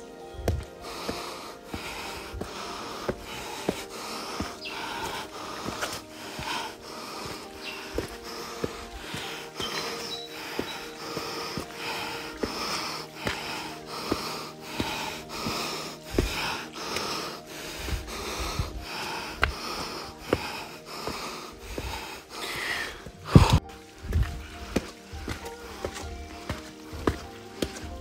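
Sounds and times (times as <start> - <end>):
person panting: 0.5 - 28.0.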